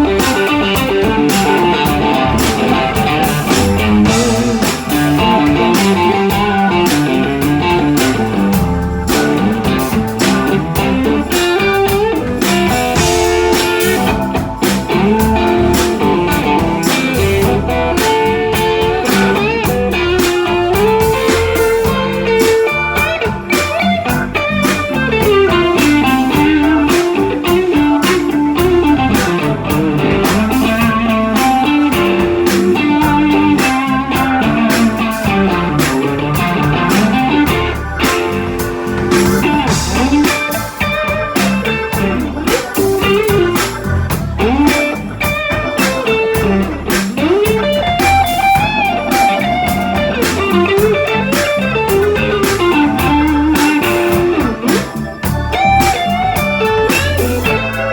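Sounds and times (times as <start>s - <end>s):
bass: 0.0s - 57.9s
drums: 0.0s - 57.9s
lead electric guitar: 0.0s - 57.9s.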